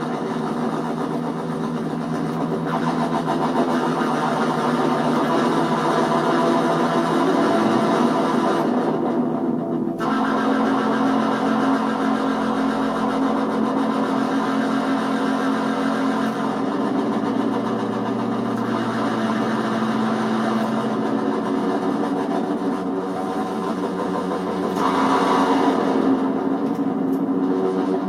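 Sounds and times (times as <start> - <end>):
buzzy synth droning tones: 0.0 - 28.0.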